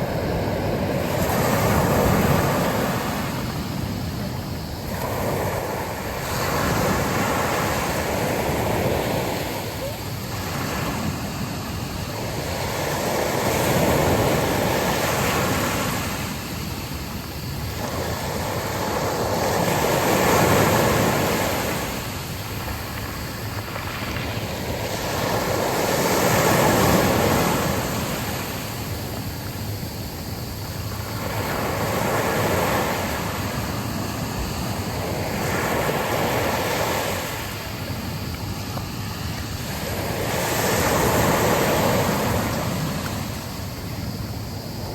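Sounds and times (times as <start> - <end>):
sea waves breaking on beach: 0.0 - 44.9
wind: 0.0 - 44.9.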